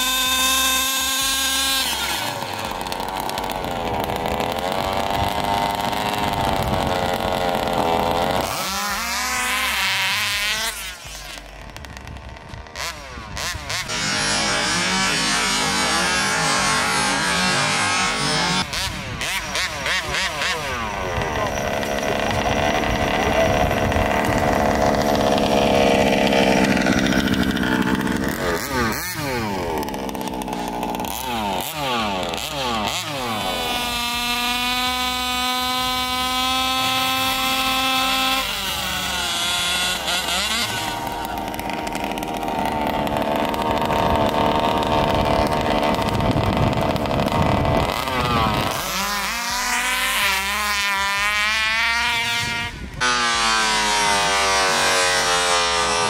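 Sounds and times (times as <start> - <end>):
small two-stroke engines revving: 0.0 - 56.0.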